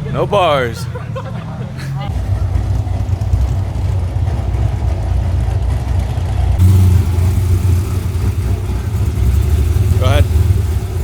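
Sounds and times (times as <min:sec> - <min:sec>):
car engine running: 0:02.0 - 0:11.0.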